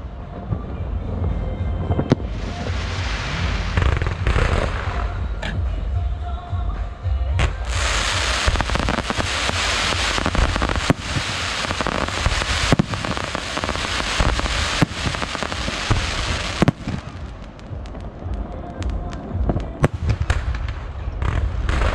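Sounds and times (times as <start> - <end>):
fireworks crackling and fizzing: 0.0 - 5.4, 7.4 - 21.9
firework bangs: 0.5 - 5.4, 7.4 - 21.9.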